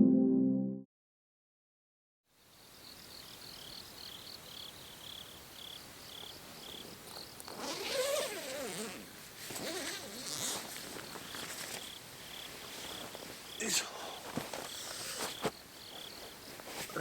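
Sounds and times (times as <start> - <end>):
crickets chirping: 2.4 - 9.0, 9.6 - 17.0.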